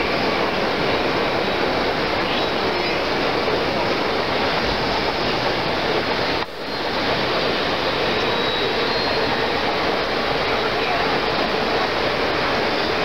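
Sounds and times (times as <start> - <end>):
model train rumbling: 0.0 - 13.0.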